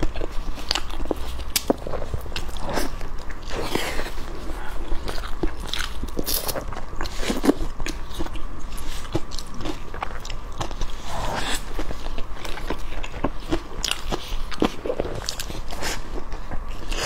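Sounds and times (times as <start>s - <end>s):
close biting and chewing: 0.0s - 17.0s.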